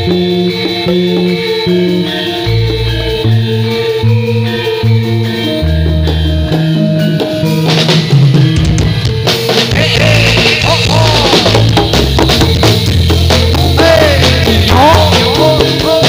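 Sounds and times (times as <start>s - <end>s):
drums playing densely: 0.0s - 16.0s
low keyboard-like notes: 0.0s - 16.0s.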